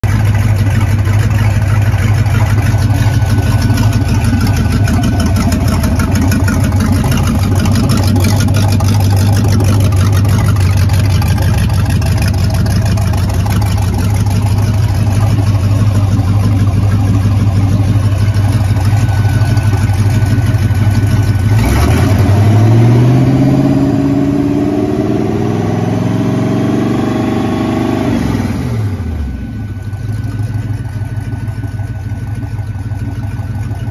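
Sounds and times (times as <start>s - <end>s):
boat engine idling and revving: 0.0s - 33.9s.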